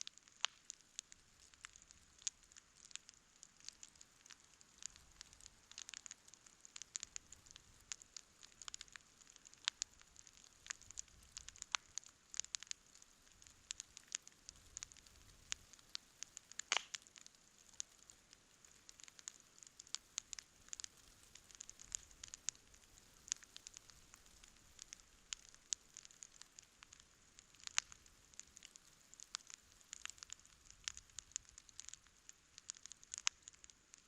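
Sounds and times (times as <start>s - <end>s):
campfire crackling: 0.0s - 34.0s
faint steady hiss: 0.0s - 34.0s.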